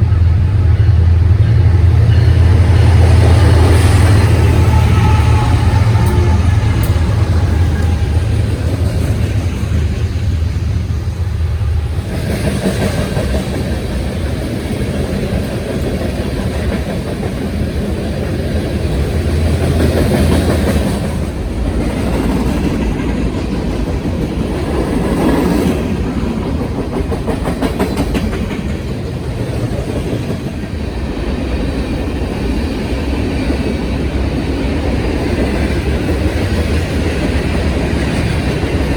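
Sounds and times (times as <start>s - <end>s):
train engine rumble: 0.0s - 38.9s
train wheels clattering on rail: 0.0s - 38.9s.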